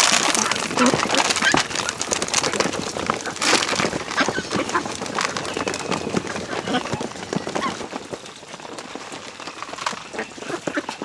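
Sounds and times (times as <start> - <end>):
ducks rustling and clicking: 0.0 - 11.0.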